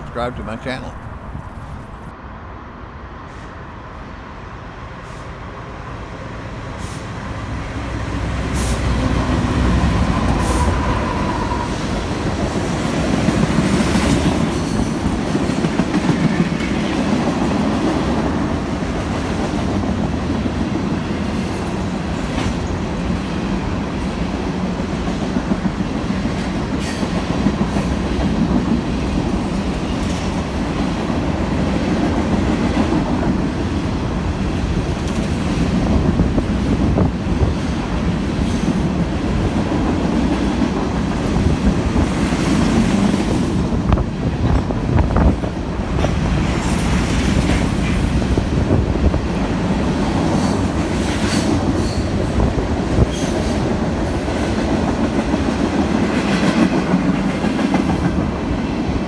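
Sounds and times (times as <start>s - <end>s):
diesel freight train passing: 0.0s - 59.0s.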